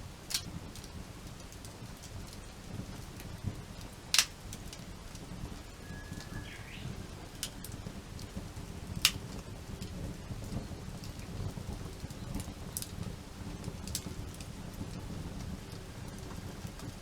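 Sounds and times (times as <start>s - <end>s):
campfire crackling: 0.0s - 17.0s
loud pops of burning wood: 0.1s - 17.0s.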